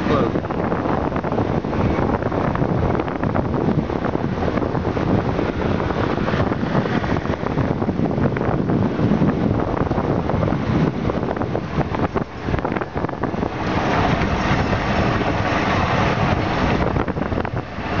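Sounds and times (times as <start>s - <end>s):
golf cart running: 0.0s - 18.0s
wind noise on microphone: 0.0s - 18.0s.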